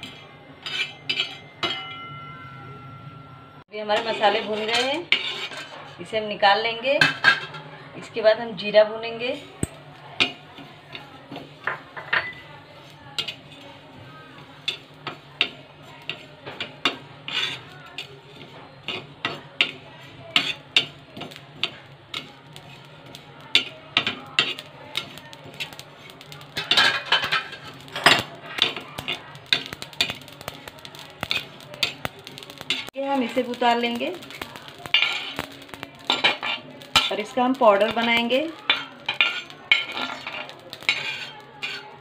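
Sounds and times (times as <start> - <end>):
metal spatula scraping metal pan: 0.0 - 2.1, 3.8 - 7.6, 10.2 - 42.0.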